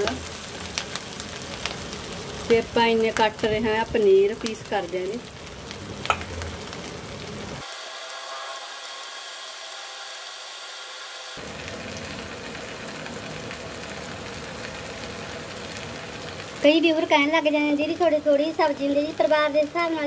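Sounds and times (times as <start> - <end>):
chillies sizzling in hot oil: 0.0 - 20.0.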